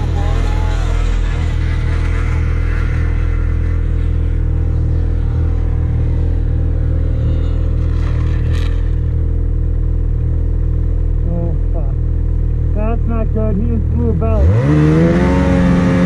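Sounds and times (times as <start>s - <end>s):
snowmobile engine idling: 0.0s - 16.0s.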